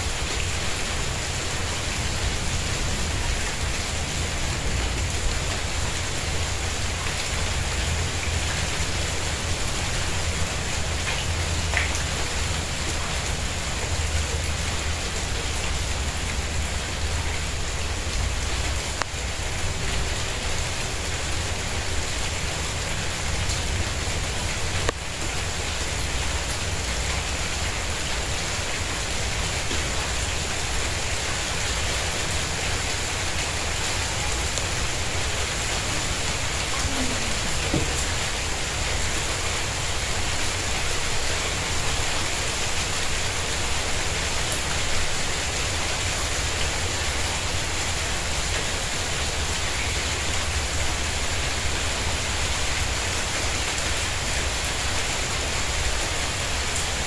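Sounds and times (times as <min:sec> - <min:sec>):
rain on tiles: 0:00.0 - 0:57.0.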